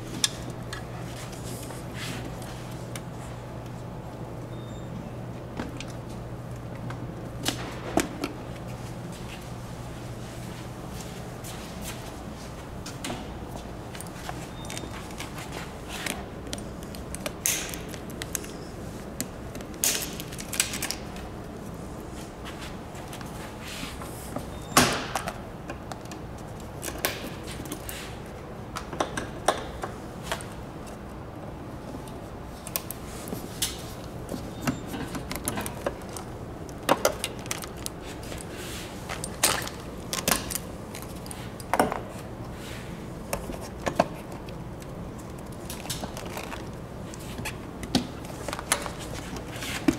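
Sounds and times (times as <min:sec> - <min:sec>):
low background hum: 0:00.0 - 0:49.9.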